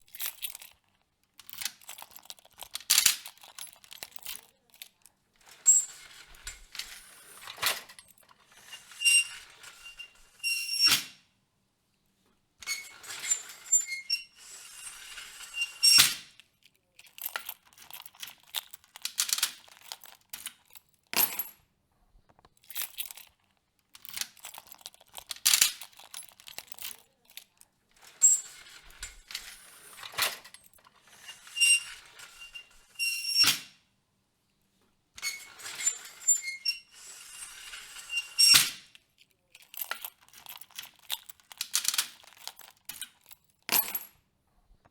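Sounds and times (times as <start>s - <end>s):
keys jangling in a lock: 0.0s - 11.2s, 12.6s - 21.6s, 22.4s - 33.7s, 35.2s - 44.2s.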